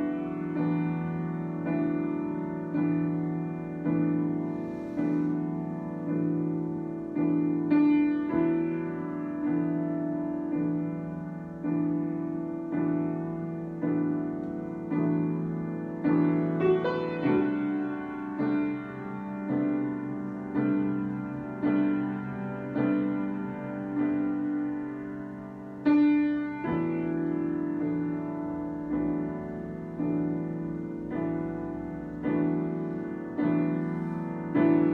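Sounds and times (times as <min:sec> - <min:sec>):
slow piano chords: 0:00.0 - 0:34.9.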